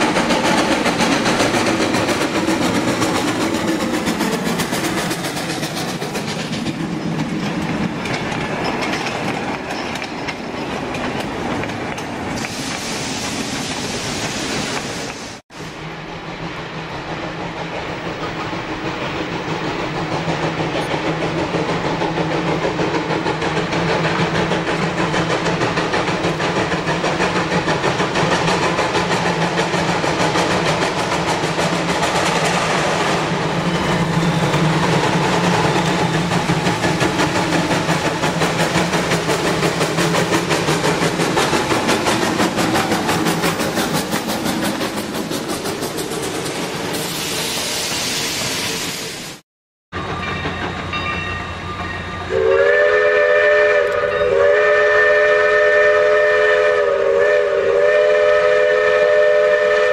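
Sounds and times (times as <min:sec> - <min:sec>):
wheels clattering on rails: 0:00.0 - 0:15.2, 0:16.4 - 0:47.2, 0:50.0 - 0:52.5
steam locomotive passing: 0:00.0 - 0:59.9.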